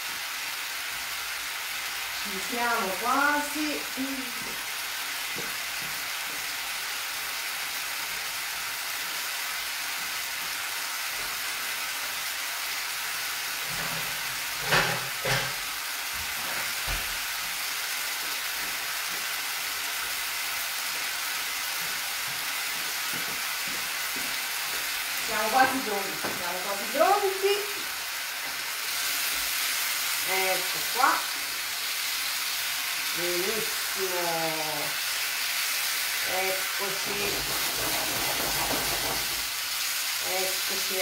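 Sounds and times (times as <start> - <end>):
food sizzling in a frying pan: 0.0 - 41.0.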